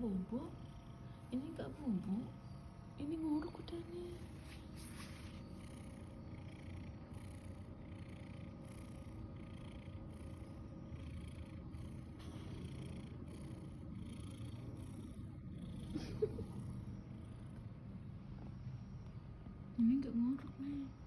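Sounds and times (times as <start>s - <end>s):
cat snoring: 2.1s - 21.0s.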